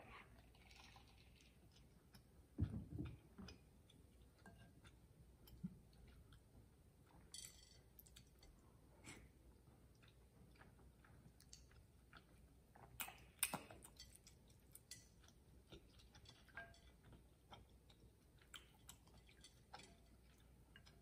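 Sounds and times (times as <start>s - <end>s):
close-miked chewing: 0.1s - 21.0s.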